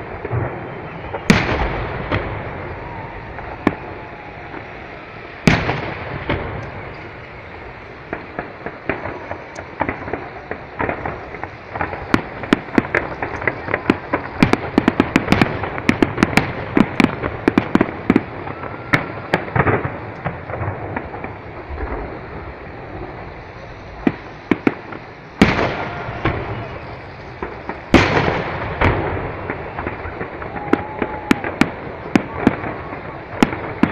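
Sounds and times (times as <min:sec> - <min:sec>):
fireworks booming: 0:00.0 - 0:33.9
fireworks crackling and popping: 0:00.0 - 0:33.9.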